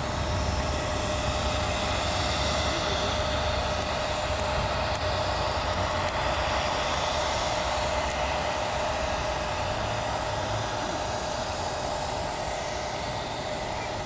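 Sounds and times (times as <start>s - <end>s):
aircraft engine rushing: 0.0s - 14.0s.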